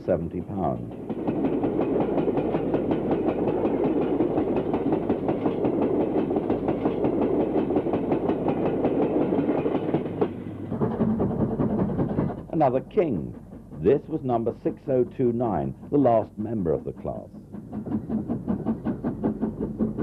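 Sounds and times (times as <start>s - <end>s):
train running past: 0.0s - 20.0s
wheels clattering over rail joints: 0.0s - 20.0s.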